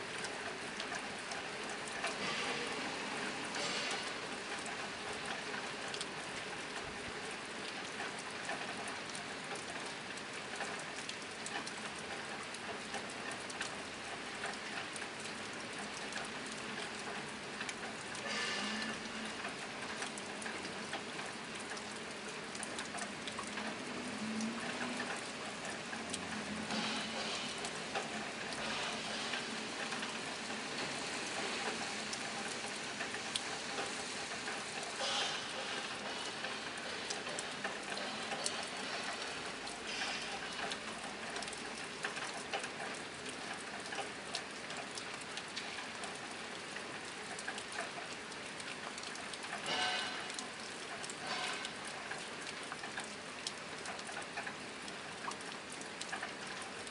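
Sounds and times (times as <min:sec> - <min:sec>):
rain drumming on a tin roof: 0:00.0 - 0:56.9.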